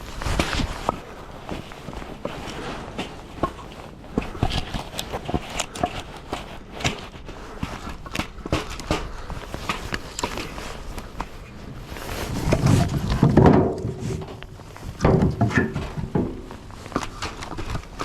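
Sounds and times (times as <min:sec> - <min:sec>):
firewood knocking and clattering: 0:01.9 - 0:18.0.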